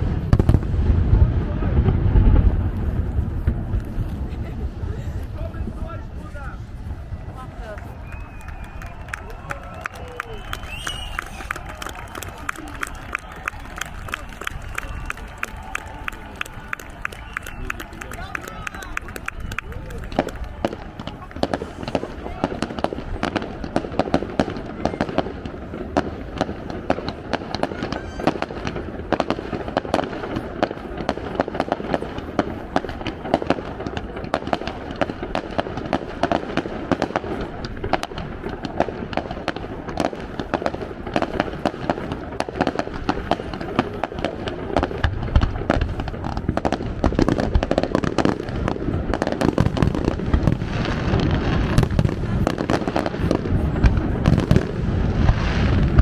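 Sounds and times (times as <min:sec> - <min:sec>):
fireworks crackling and popping: 0:00.0 - 0:56.0
fireworks low booms: 0:00.0 - 0:56.0.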